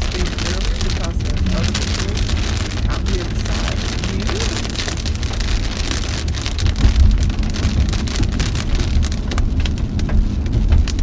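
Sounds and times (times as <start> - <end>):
car rumbling on road: 0.0 - 11.0
rain drops hitting car: 0.0 - 11.0.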